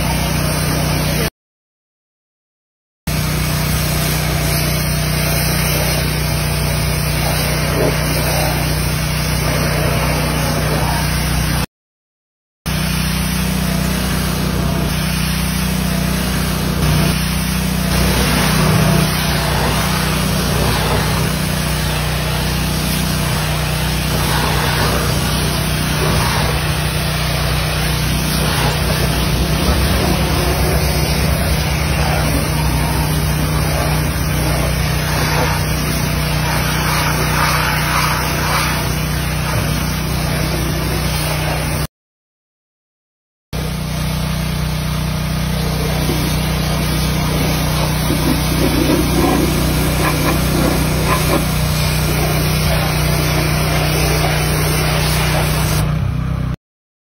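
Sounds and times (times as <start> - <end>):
pressure washer spray hissing: 3.1 - 11.7, 12.7 - 41.9, 43.6 - 56.0.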